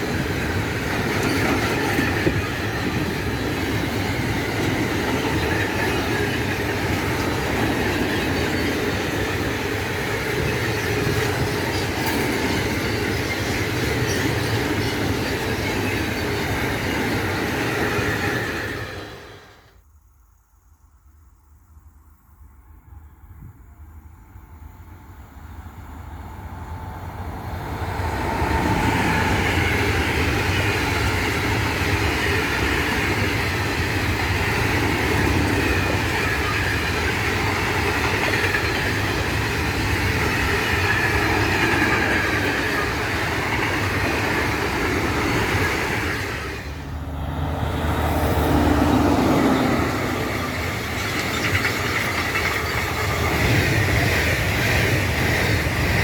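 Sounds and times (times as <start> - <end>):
wheels clacking over rail joints: 0.0 - 19.2, 27.6 - 56.0
freight train rolling past: 0.0 - 19.8, 22.3 - 56.0
passing train rumble: 0.0 - 19.8, 21.4 - 56.0.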